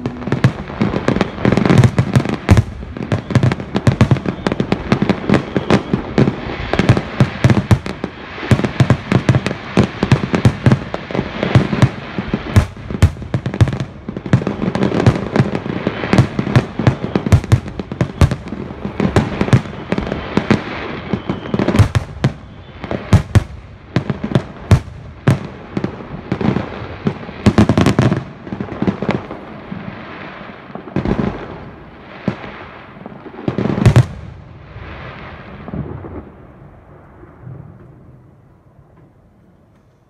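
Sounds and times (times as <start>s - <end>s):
fireworks bursting with sharp bangs: 0.0s - 40.0s
fireworks crackling: 0.0s - 40.0s.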